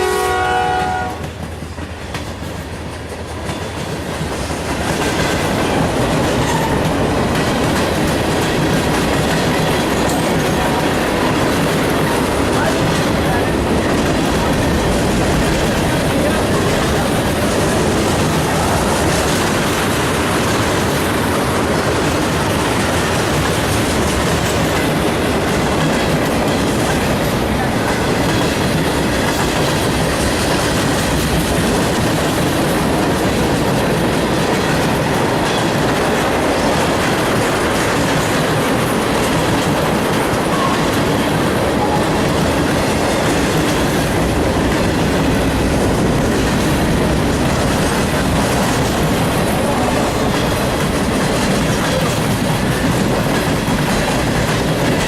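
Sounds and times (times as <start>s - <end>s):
freight train rumbling past: 0.0s - 55.0s
wheels clacking over rail joints: 0.2s - 55.0s.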